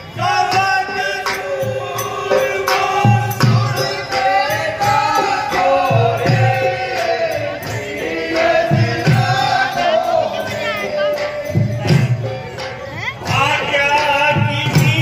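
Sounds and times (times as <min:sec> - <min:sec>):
voices singing held notes: 0:00.0 - 0:15.0.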